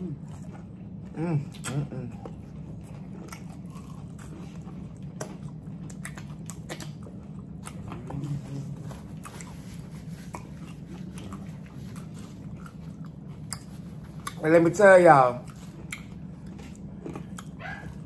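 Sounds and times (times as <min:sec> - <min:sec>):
crunchy chewing: 0:00.0 - 0:18.0
steady low hum: 0:00.0 - 0:18.0.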